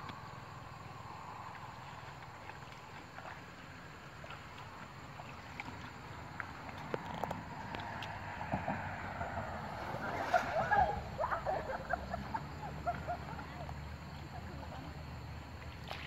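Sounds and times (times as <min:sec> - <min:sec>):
low steady rumble: 0:00.0 - 0:15.8
water swishing and sloshing: 0:00.0 - 0:16.0.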